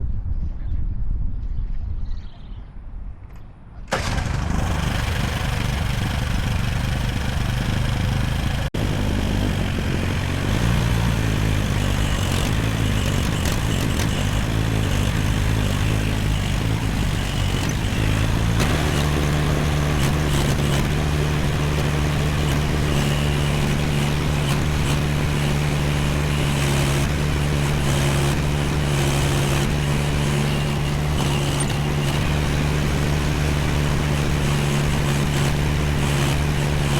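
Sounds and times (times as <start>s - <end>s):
excavator engine starting and running: 3.9s - 36.9s.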